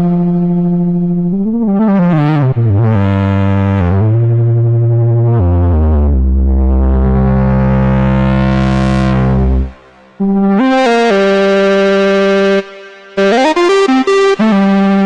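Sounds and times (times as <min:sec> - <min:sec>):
brassy synthesizer lead: 0:00.0 - 0:15.0.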